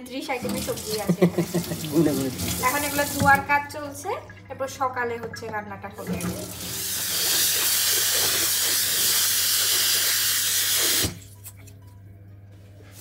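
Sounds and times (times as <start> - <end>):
water running from kitchen tap: 0.0 - 11.3.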